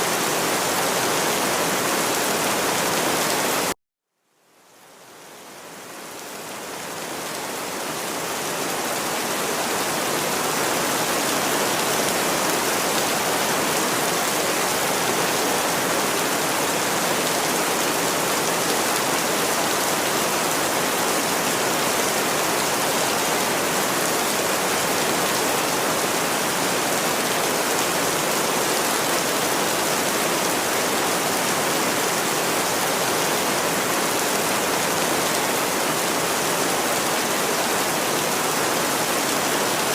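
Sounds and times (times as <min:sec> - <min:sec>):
heavy rain: 0:00.0 - 0:03.8, 0:04.6 - 0:39.9.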